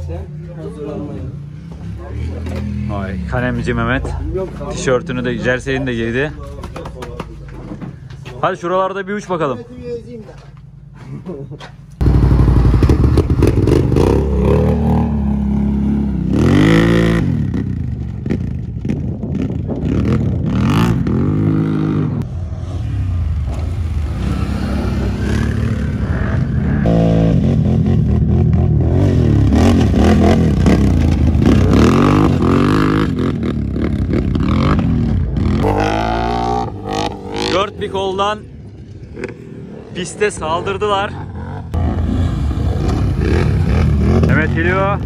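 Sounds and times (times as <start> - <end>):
atv engines revving: 0.0 - 9.6, 10.9 - 45.0.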